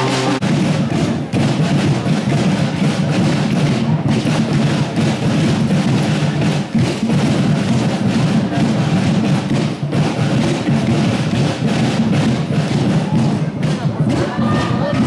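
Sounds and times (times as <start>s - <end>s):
music with drums and percussion: 0.0s - 15.0s.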